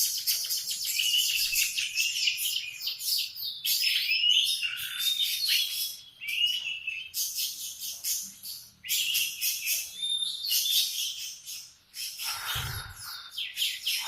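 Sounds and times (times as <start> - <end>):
canary singing: 0.1 - 14.0.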